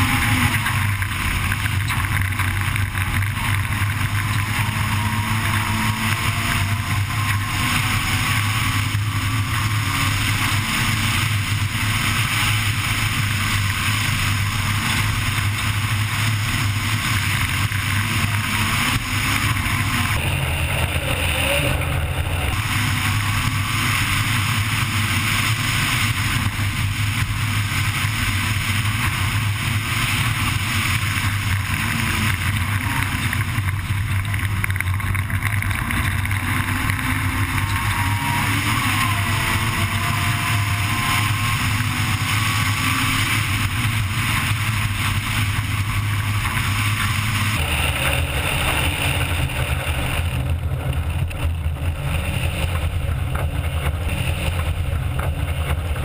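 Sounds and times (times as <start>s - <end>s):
rally car engine running hard: 0.0s - 56.0s
road and gravel noise: 0.0s - 56.0s.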